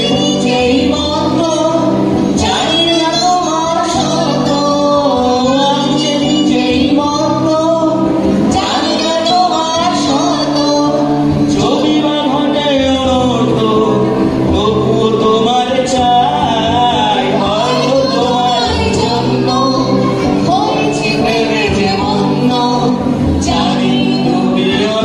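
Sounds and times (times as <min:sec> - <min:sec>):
electric guitar: 0:00.0 - 0:25.0
man singing: 0:00.0 - 0:25.0
woman singing: 0:00.0 - 0:25.0.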